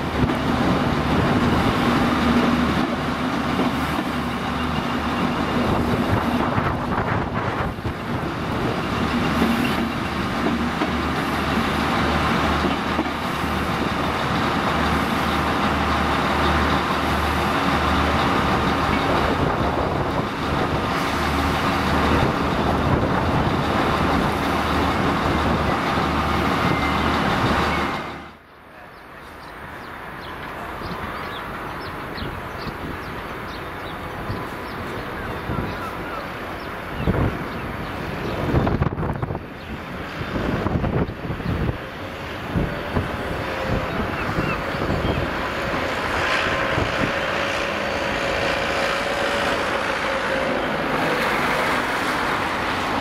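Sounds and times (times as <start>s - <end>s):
train coaches rumbling over rails: 0.0s - 53.0s.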